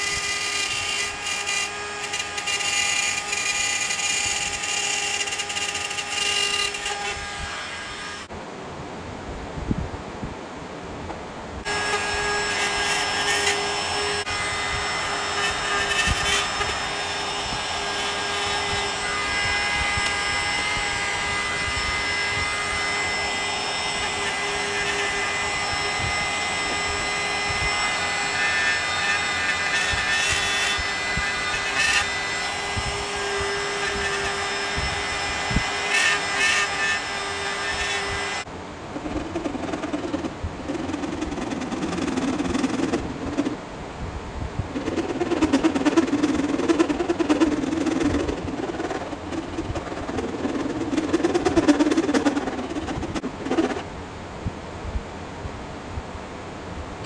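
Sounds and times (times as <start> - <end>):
rotary cutting tool cutting: 0.0 - 8.3, 11.7 - 43.6, 44.7 - 53.9.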